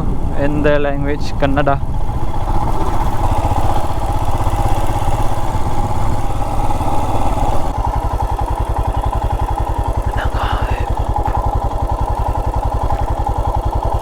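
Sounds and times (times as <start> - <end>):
single-cylinder engine running: 0.0 - 14.0.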